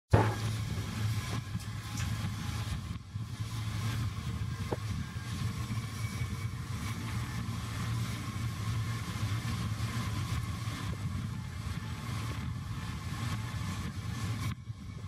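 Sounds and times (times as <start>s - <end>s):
train running with low drone: 0.1s - 15.0s.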